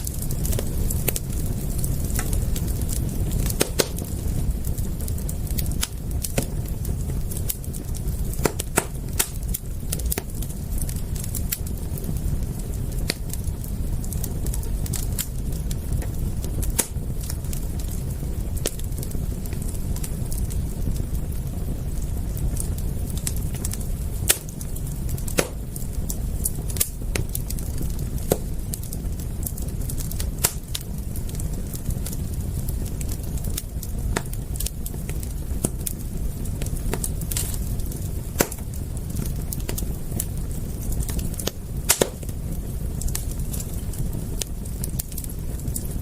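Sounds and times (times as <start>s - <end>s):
fire low rumble: 0.0s - 46.0s
wood fire crackling and popping: 0.0s - 46.0s.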